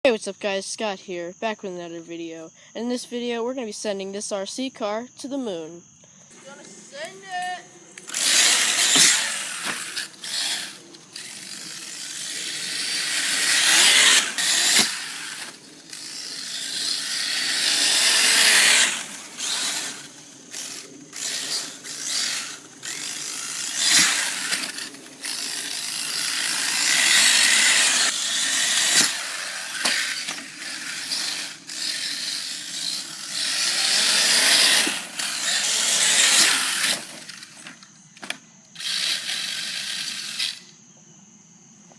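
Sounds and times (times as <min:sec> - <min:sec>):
rc car motor whine: 0:06.1 - 0:40.8.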